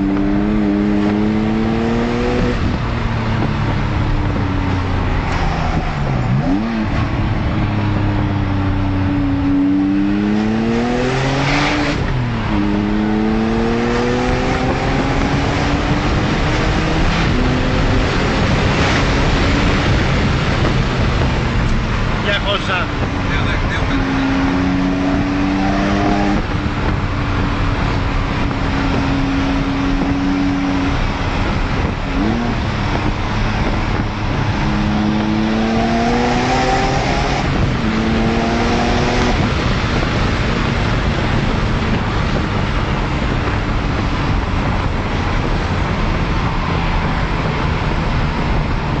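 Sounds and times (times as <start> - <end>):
car engine accelerating: 0.0 - 49.0
road and wind noise: 0.0 - 49.0.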